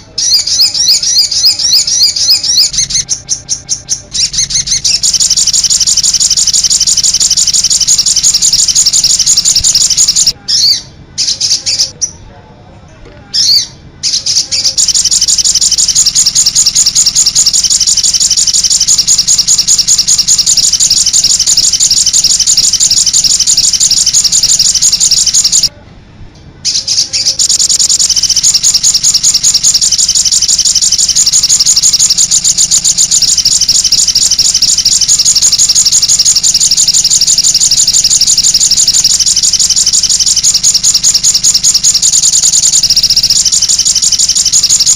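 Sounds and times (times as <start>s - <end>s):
songbird trilling: 0.0s - 12.1s, 13.4s - 25.7s, 26.7s - 44.9s.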